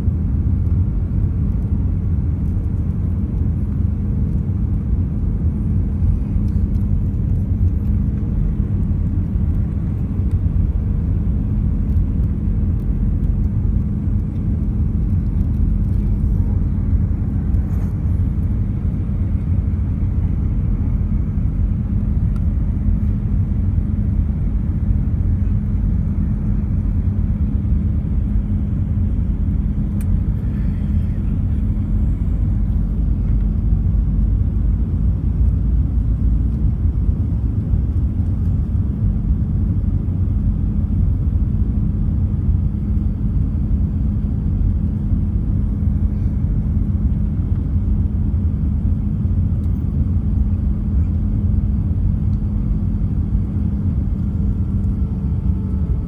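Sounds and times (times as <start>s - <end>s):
constant hum: 0.0s - 56.0s
jet engines and airflow rumble: 0.0s - 56.0s.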